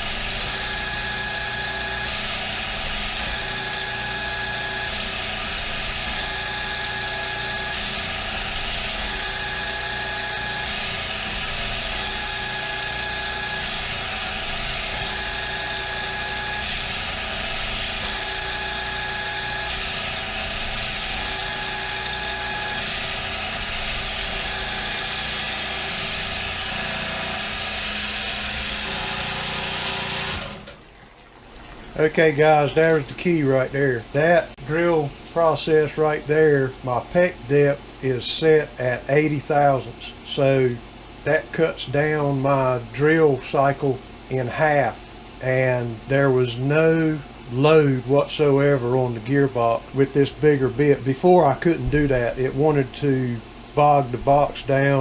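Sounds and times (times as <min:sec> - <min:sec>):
milling machine drilling: 0:00.0 - 0:30.8, 0:31.9 - 0:55.0.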